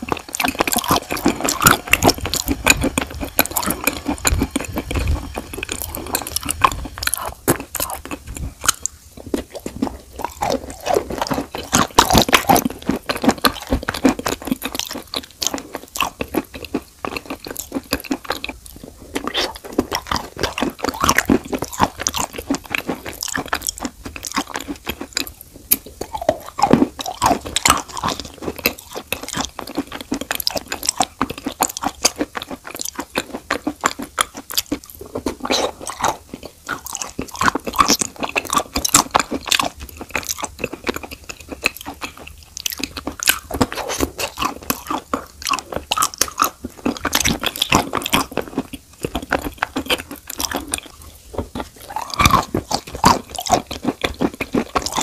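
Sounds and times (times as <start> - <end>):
biting and chewing chalk: 0.0 - 55.0.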